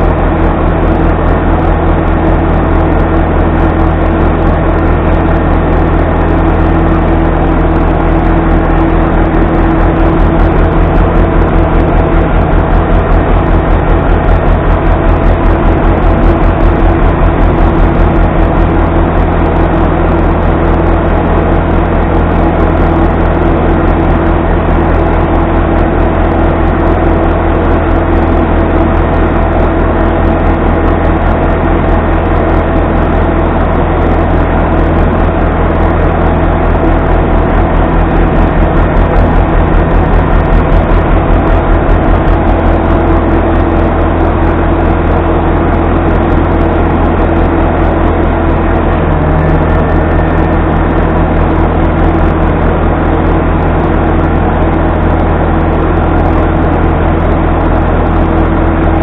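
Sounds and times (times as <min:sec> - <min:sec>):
machine drone with low hum: 0:00.0 - 0:59.0.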